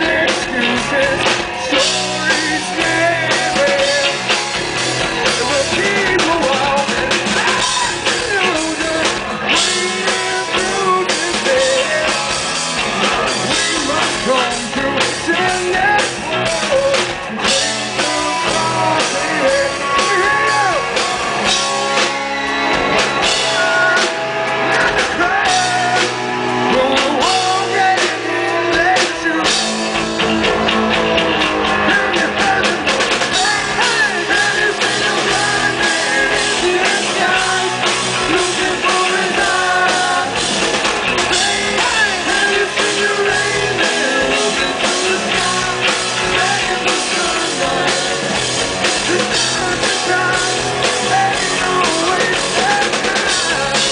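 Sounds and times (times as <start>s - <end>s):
man singing: 0.0s - 22.1s, 23.2s - 30.2s, 31.6s - 53.9s
drum kit beat: 0.0s - 53.9s
electric guitar: 0.0s - 53.9s.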